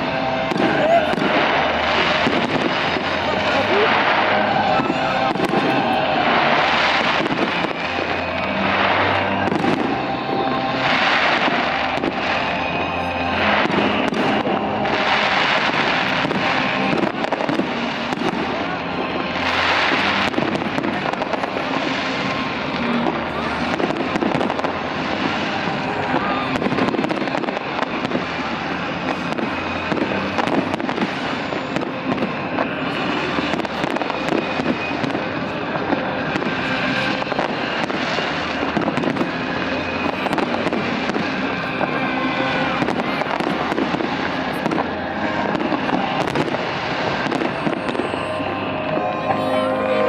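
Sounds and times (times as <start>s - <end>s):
fireworks crackling and banging: 0.0s - 50.0s.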